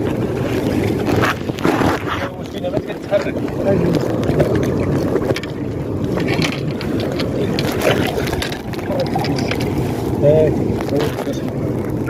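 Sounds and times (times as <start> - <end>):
sea water sloshing and splashing: 0.0 - 12.0
wind buffeting microphone: 0.0 - 12.0.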